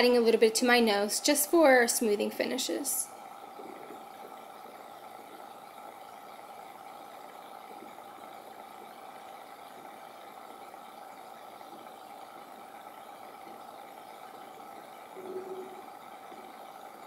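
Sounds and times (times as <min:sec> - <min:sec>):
background hum with hiss: 0:00.0 - 0:17.0.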